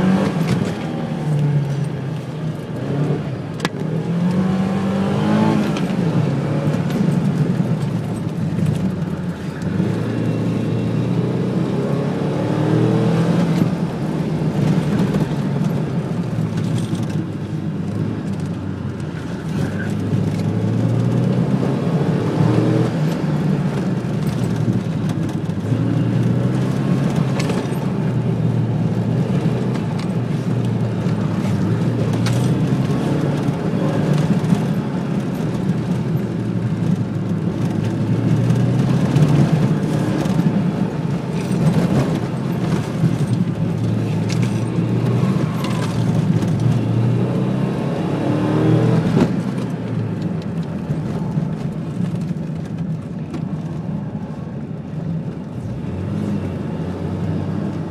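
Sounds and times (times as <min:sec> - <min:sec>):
car engine revving: 0:00.0 - 0:16.2, 0:19.5 - 0:50.4.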